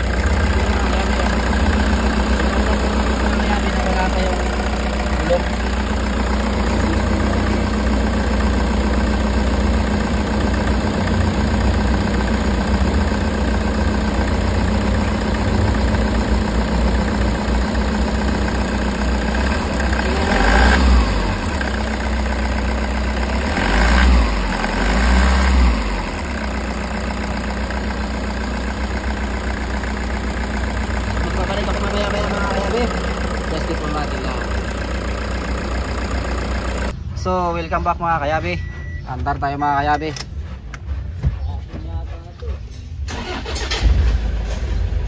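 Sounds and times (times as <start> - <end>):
engine idling and revving: 0.0 - 37.0, 43.0 - 45.0.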